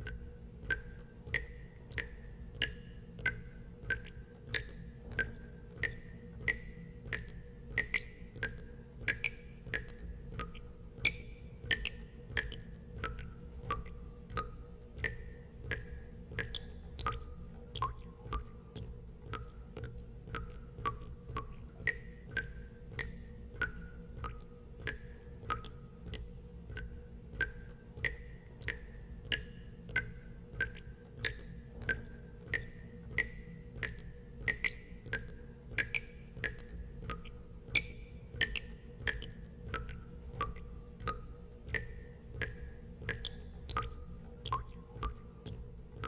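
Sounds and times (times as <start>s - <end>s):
water drops plinking into water: 0.0s - 46.0s.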